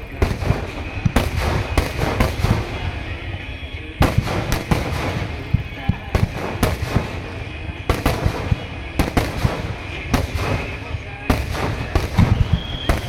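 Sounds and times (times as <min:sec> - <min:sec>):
firework shells bursting: 0:00.0 - 0:13.0
sharp firework cracks: 0:00.0 - 0:13.0.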